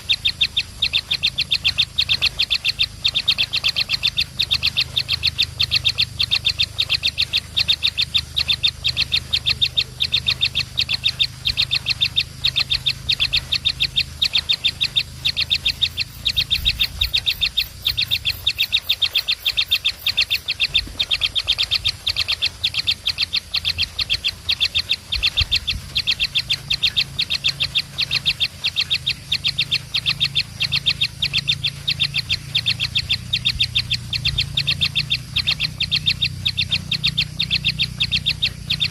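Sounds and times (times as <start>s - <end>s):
baby birds begging chirps: 0.0s - 38.9s
low hum: 0.0s - 38.9s.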